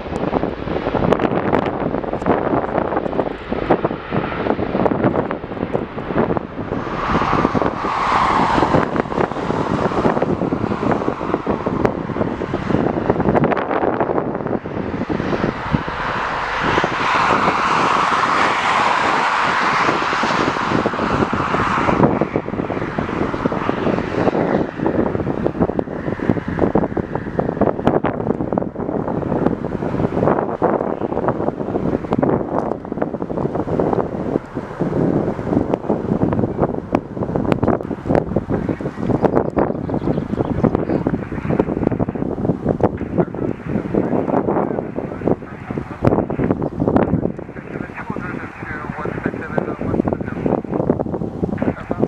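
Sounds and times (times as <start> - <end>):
jet engines rushing: 0.0 - 52.0
wind buffeting microphone: 0.0 - 52.0.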